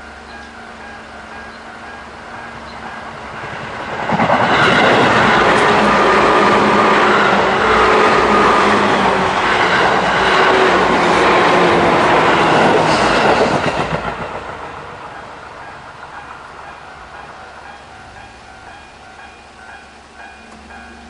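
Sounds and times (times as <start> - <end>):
crossing warning bell ringing: 0.0 - 13.9, 15.0 - 21.0
electric train passing: 0.0 - 21.0
train wheels clattering: 0.2 - 21.0.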